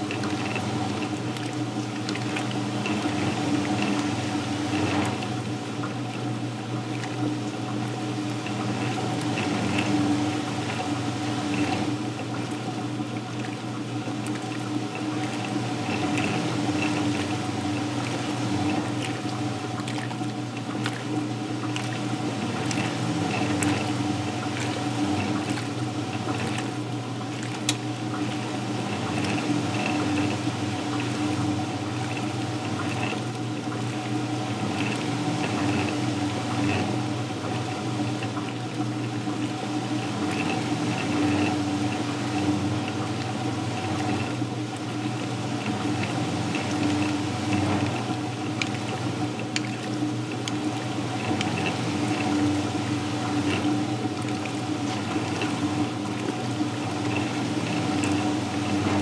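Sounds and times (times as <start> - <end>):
washing machine motor hum: 0.0 - 59.0
water sloshing in washing machine: 0.0 - 59.0.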